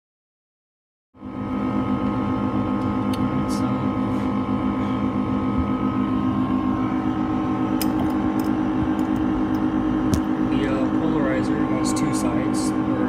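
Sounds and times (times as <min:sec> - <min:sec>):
electric motor humming: 0:01.2 - 0:13.0.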